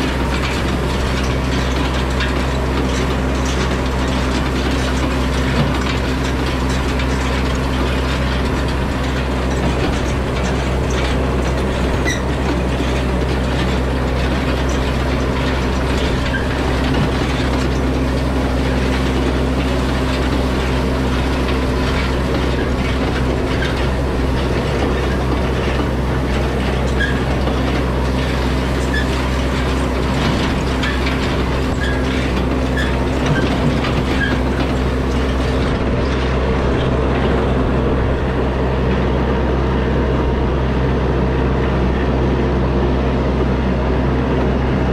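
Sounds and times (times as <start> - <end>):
hay rake rattling: 0.0 - 43.9
diesel tractor engine running: 0.0 - 44.9.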